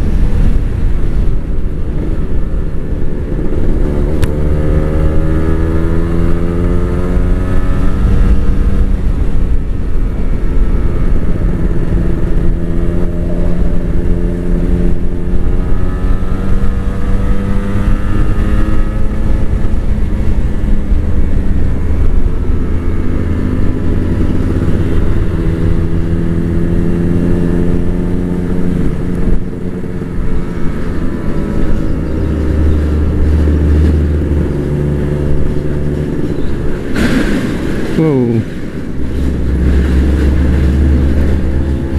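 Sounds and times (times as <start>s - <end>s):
two-stroke motorcycle engine revving: 2.0s - 37.2s, 38.0s - 41.9s.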